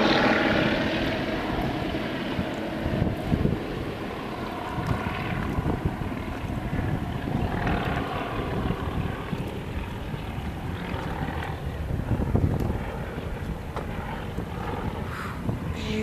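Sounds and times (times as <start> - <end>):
stunt plane engines droning: 0.0 - 16.0
wind rumbling on microphone: 0.0 - 16.0.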